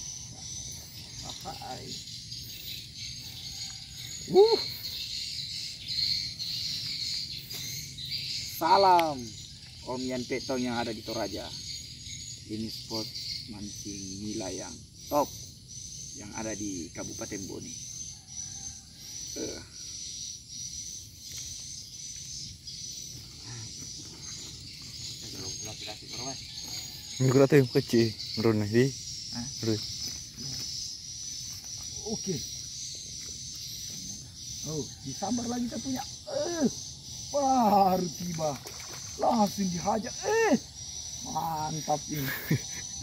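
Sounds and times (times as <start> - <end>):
insects chirring: 0.0 - 43.0
rising and falling insect call: 0.0 - 43.0.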